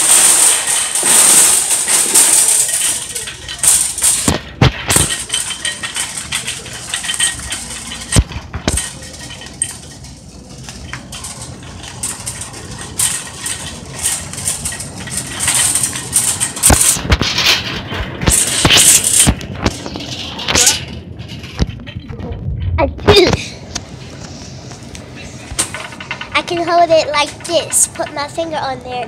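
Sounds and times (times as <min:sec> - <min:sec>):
shopping cart rattling: 0:00.0 - 0:22.2, 0:25.2 - 0:29.0.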